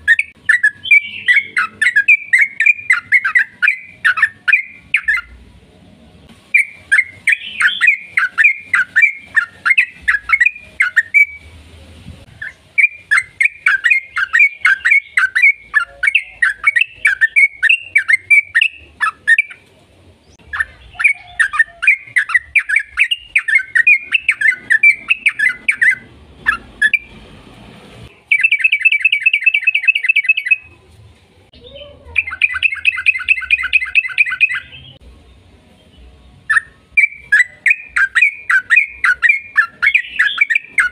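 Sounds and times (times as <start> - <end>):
bird singing loud chirping notes: 0.0 - 5.4, 6.5 - 11.6, 12.3 - 19.6, 20.2 - 27.2, 28.1 - 30.8, 31.5 - 35.0, 35.7 - 40.9.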